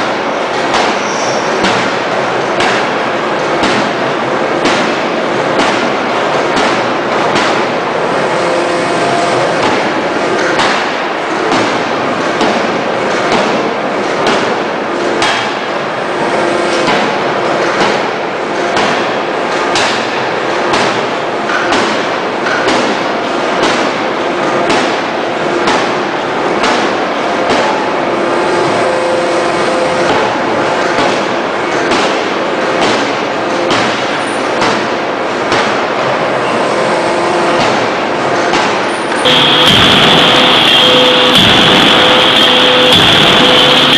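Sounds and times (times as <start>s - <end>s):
forging hammer blows: 0.0s - 43.9s
loud steady noise: 0.0s - 43.9s.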